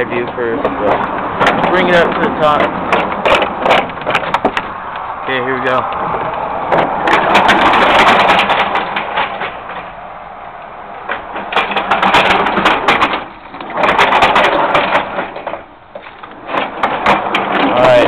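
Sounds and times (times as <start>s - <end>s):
roller coaster wheels clattering: 0.0s - 18.0s.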